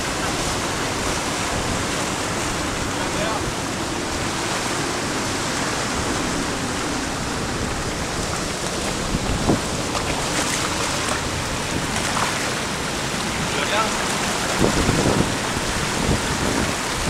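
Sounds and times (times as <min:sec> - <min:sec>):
surf breaking on rocks: 0:00.0 - 0:17.0.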